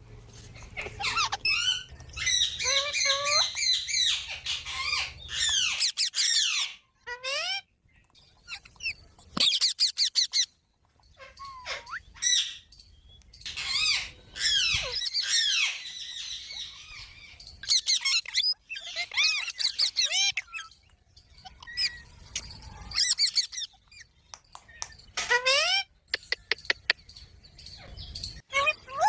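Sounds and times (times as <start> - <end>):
parrot chirping and squawking: 0.4 - 12.7, 13.5 - 24.2, 24.8 - 27.1, 27.7 - 29.0.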